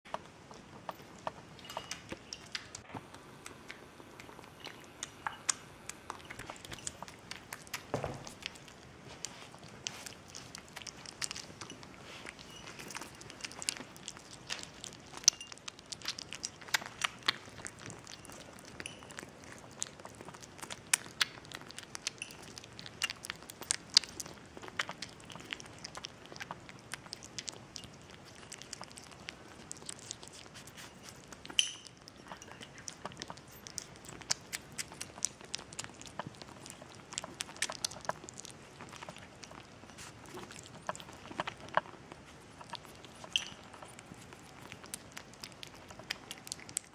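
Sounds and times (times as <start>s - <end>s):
kitten chewing and licking: 0.0s - 46.9s.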